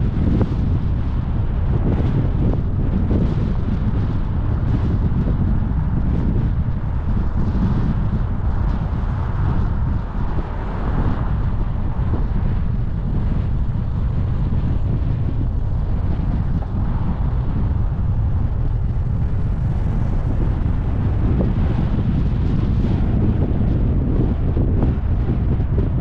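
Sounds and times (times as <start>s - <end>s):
car road and engine rumble: 0.0s - 26.0s
wind buffeting microphone: 0.0s - 26.0s.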